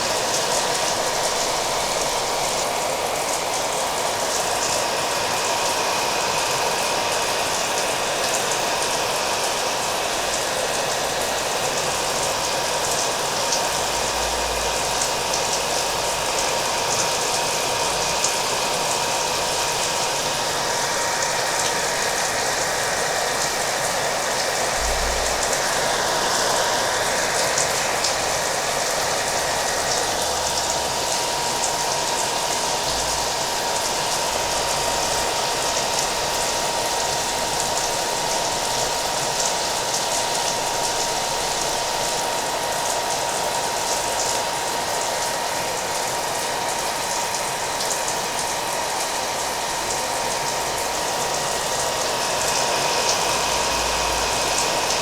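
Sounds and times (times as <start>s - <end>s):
hair dryer running: 0.0s - 55.0s
rain hiss: 0.0s - 55.0s.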